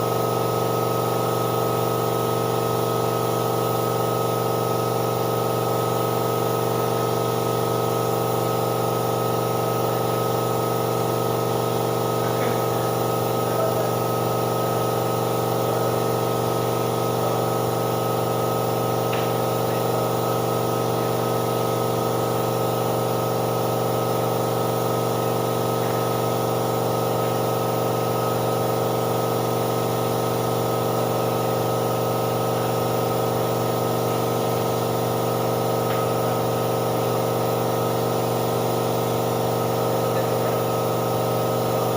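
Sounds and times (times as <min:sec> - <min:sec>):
air compressor humming and hissing: 0:00.0 - 0:41.9.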